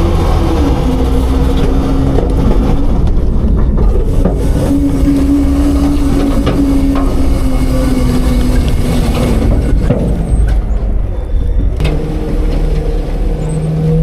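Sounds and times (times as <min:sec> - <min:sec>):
garbage truck engine running: 0:00.0 - 0:14.0
pitched drone: 0:00.0 - 0:14.0.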